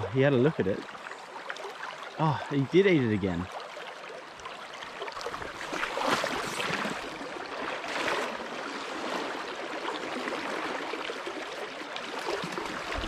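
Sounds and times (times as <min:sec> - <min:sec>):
river water rushing and splashing: 0:00.0 - 0:13.0.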